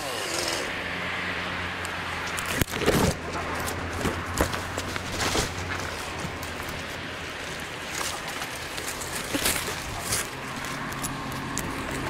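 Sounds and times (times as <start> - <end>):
rustling against branches: 0.0 - 12.0.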